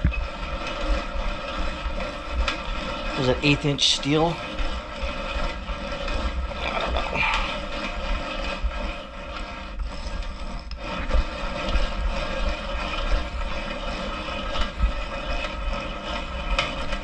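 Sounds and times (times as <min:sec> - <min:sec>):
drill bit grinding through steel: 0:00.0 - 0:17.0
hand drill gears whirring: 0:00.0 - 0:17.0.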